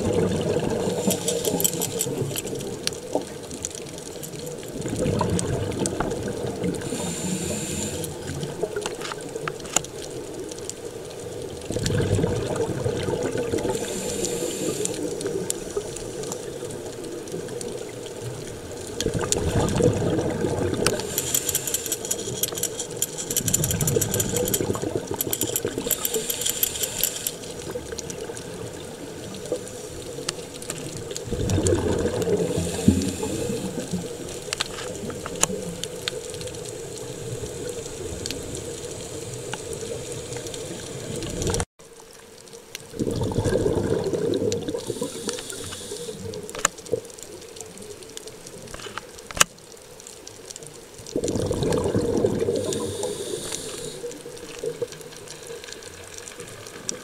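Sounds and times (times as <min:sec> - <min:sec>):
diver's exhaled bubbles gurgling: 0:00.0 - 0:41.6, 0:42.8 - 0:48.0, 0:50.9 - 0:57.0
steady underwater hiss: 0:00.0 - 0:57.0.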